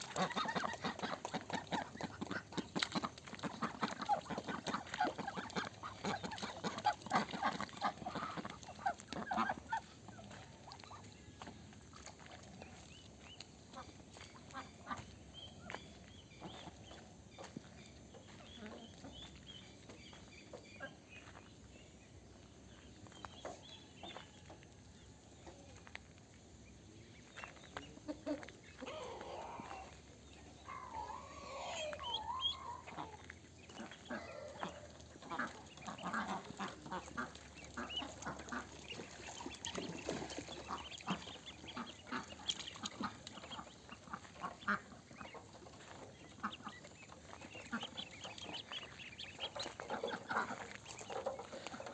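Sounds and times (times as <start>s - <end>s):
ducks quacking: 0.0s - 11.1s, 11.9s - 21.5s, 27.2s - 51.9s.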